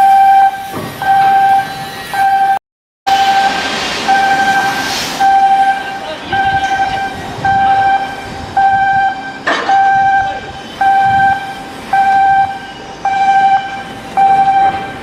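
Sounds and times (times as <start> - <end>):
electronic warning beeper: 0.0 - 15.0.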